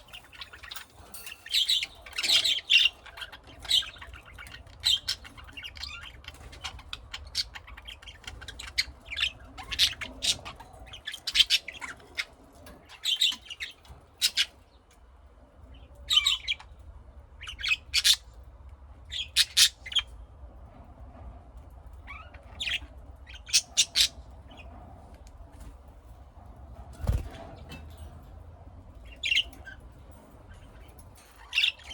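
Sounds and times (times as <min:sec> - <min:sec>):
lovebirds chirping and squawking: 0:00.0 - 0:31.9.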